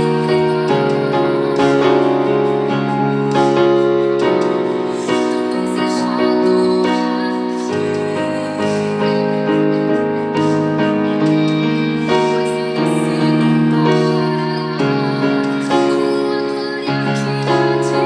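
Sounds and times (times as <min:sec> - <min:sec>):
keyboard playing piano chords: 0:00.0 - 0:18.0.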